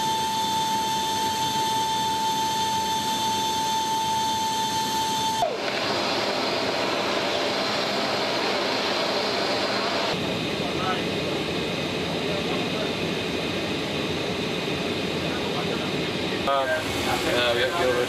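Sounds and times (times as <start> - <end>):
high whine: 0.0 - 18.0
jet engine noise: 0.0 - 18.0.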